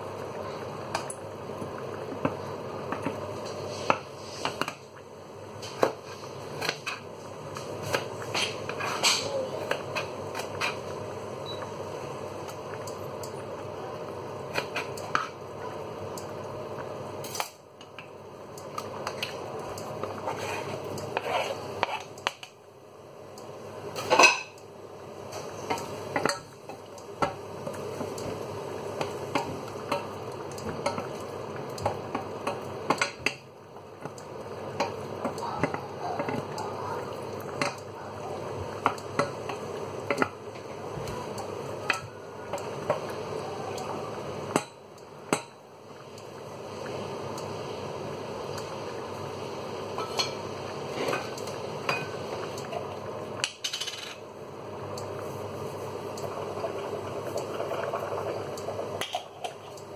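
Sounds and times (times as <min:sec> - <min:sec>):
cooking pans hissing: 0:00.0 - 0:59.9.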